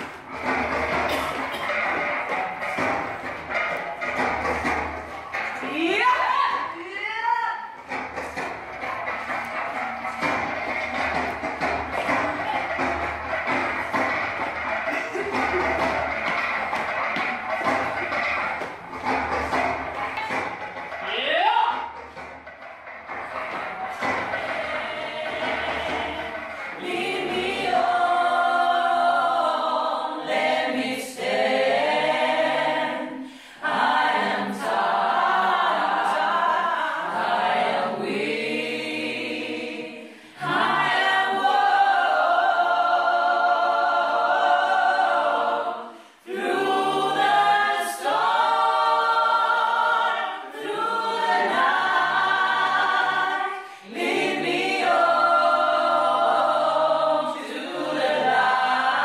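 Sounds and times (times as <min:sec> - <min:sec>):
a cappella choir singing: 0:00.0 - 0:06.6, 0:07.8 - 0:21.1, 0:22.2 - 0:59.0.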